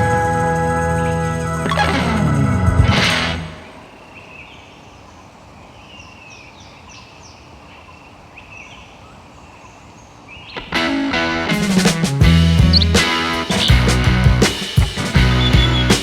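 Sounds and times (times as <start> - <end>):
birds chirping: 0.0 - 16.0
forest background hiss: 0.0 - 16.0.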